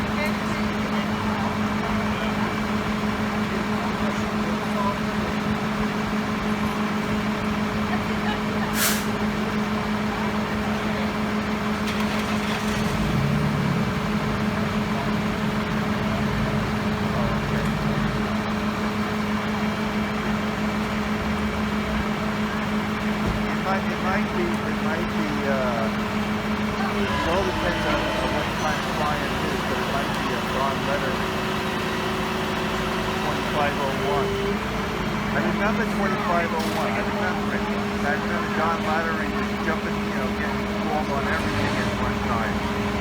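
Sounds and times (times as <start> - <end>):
heavy vehicle engine idling: 0.0 - 43.0.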